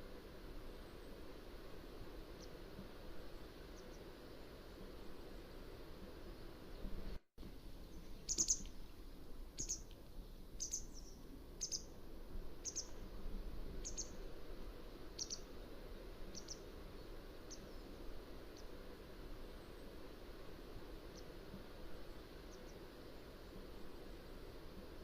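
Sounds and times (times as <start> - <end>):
low background hiss: 0.0 - 25.0.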